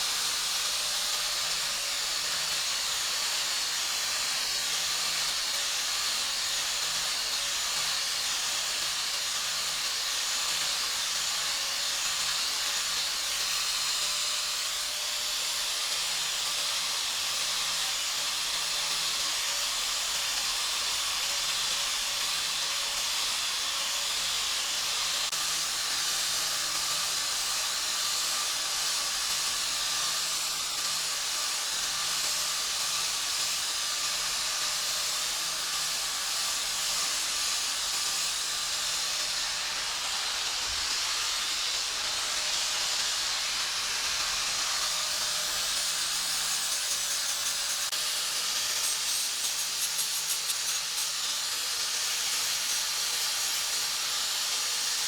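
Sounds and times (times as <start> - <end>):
steady pressurized hiss: 0.0 - 55.0.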